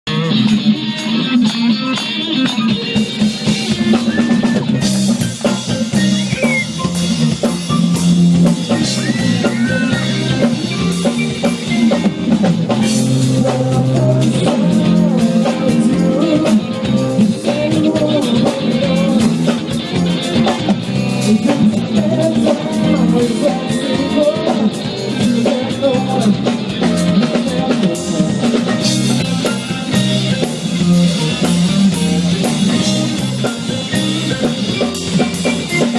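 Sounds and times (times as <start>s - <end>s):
drum kit with rimshots: 0.1s - 35.9s
electric guitar: 0.1s - 35.9s.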